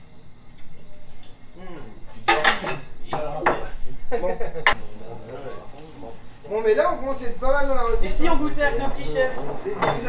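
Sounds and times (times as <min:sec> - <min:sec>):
crickets chirring: 0:00.0 - 0:10.0
men's voices: 0:01.5 - 0:10.0.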